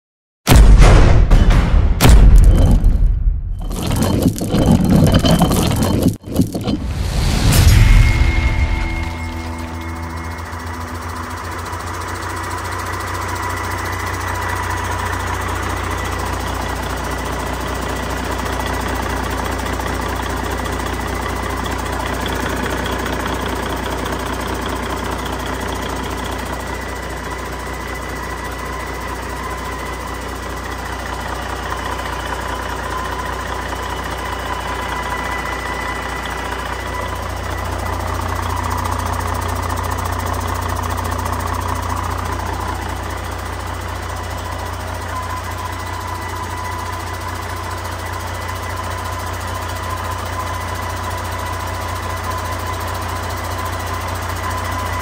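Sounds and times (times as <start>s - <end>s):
diesel engine idling: 8.6s - 55.0s.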